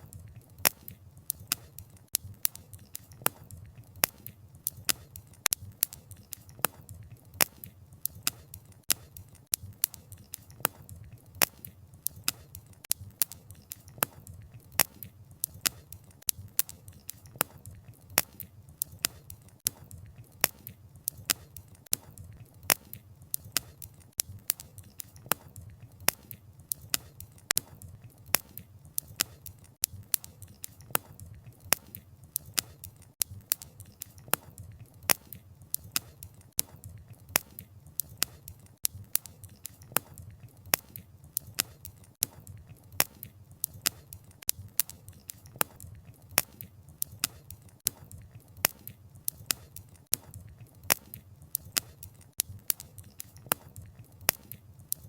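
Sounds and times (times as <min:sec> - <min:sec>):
burning logs snapping and popping: 0:00.0 - 0:55.0.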